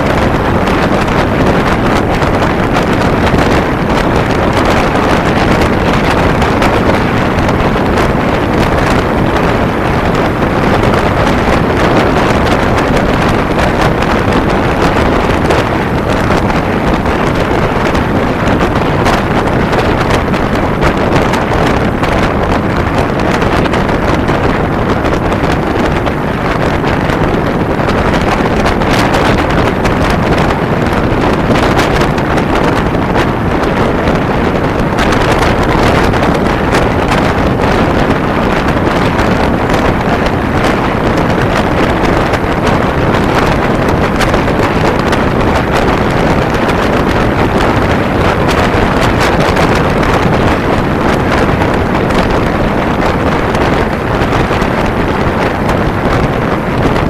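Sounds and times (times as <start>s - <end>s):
wind noise on microphone: 0.0s - 57.0s.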